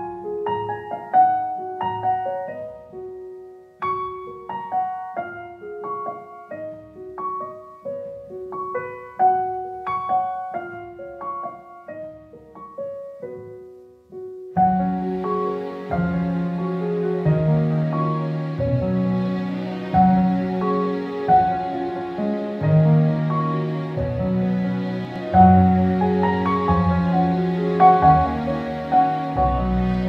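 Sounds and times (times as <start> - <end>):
gentle solo piano melody: 0.0 - 30.0.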